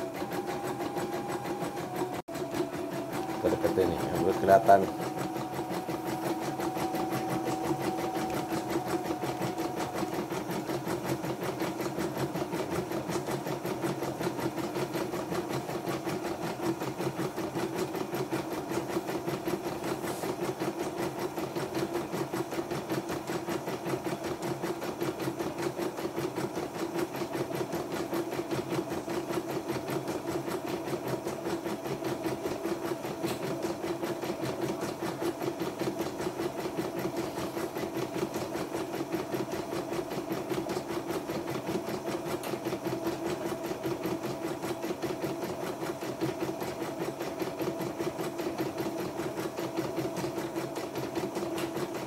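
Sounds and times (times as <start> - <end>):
embroidery machine stitching: 0.0 - 52.0.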